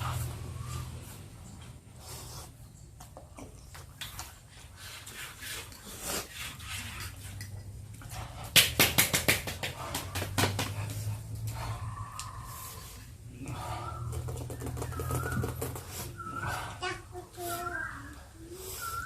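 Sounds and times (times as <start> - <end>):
people sniffing and breathing hard: 0.0 - 3.0, 4.1 - 19.0.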